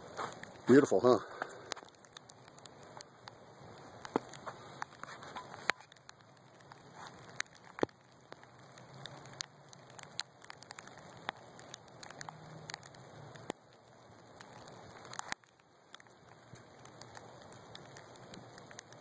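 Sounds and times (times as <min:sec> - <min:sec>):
sleet and snow pattering: 0:00.0 - 0:19.0.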